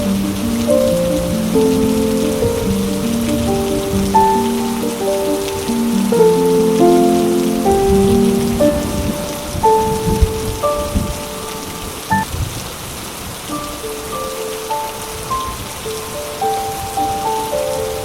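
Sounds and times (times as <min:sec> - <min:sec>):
soft music of held notes: 0:00.0 - 0:12.3, 0:13.4 - 0:18.0
steady rain falling: 0:00.0 - 0:18.0.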